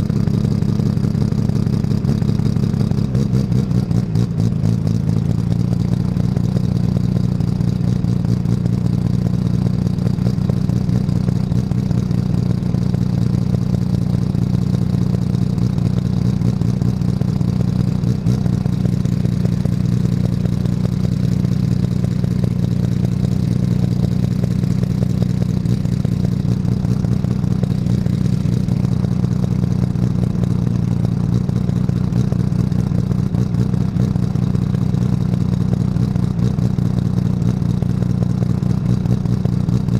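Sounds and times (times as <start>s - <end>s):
race car engine droning: 0.0s - 39.9s
rattle: 0.1s - 39.9s.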